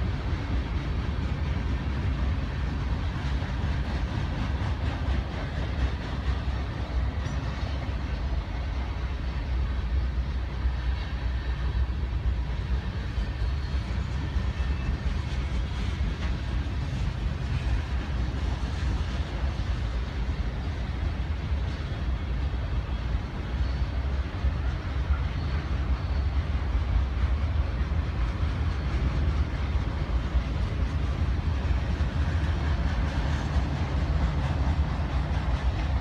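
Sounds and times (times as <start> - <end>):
freight train rolling past: 0.0 - 36.0.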